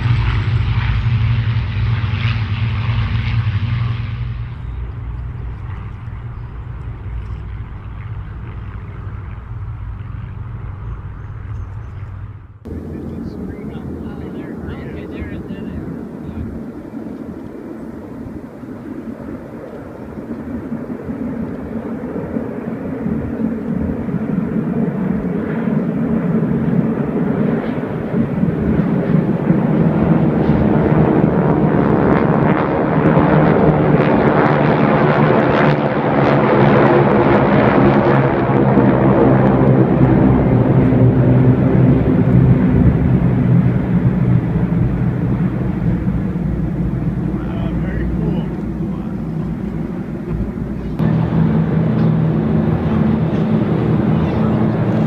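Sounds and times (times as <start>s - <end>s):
aircraft engines droning: 0.0s - 55.0s.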